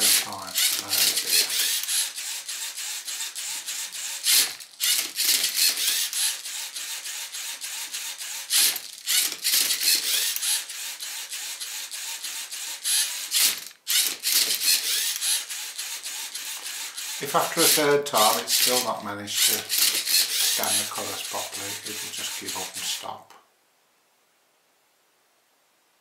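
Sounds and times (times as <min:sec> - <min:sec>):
robot motors and gears whirring: 0:00.0 - 0:23.0.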